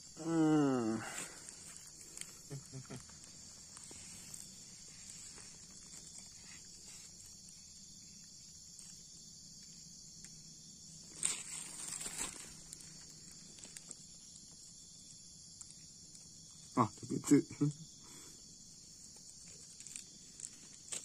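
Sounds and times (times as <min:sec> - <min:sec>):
insects chirring: 0:00.0 - 0:21.0
rustle and crackle in dry litter: 0:01.2 - 0:16.7, 0:18.7 - 0:21.0.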